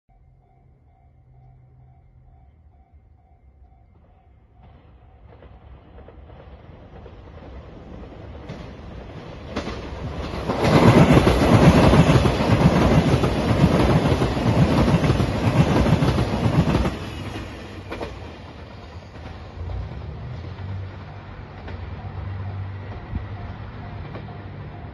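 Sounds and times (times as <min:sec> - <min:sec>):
diesel train passing: 0:00.1 - 0:24.9.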